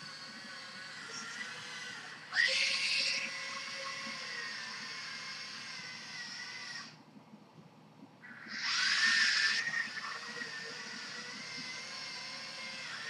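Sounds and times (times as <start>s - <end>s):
electric motors whining: 0.0s - 7.0s, 8.2s - 13.0s.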